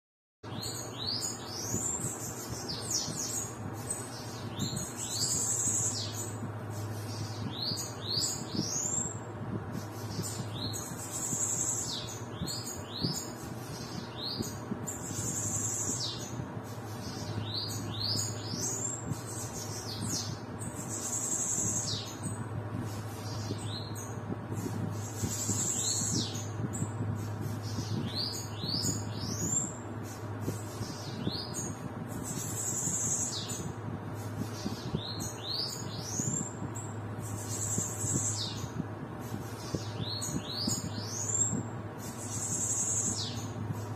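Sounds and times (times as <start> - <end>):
birds singing buzzy trills: 0.4 - 43.9
steady low hum: 0.4 - 43.9.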